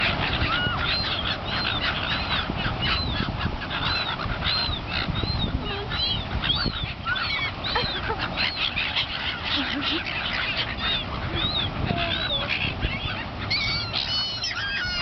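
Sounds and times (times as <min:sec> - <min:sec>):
seagulls calling: 0:00.0 - 0:15.0.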